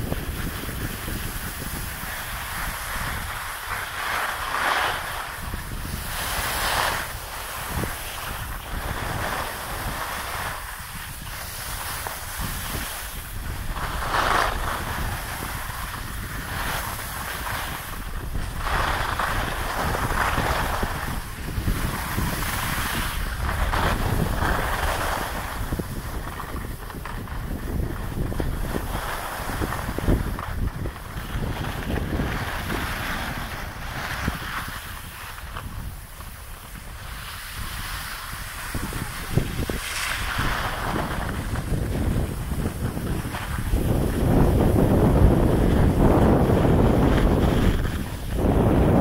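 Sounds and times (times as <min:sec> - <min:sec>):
skis scraping on packed snow: 0:00.0 - 0:49.0
wind rushing over microphone: 0:00.0 - 0:49.0.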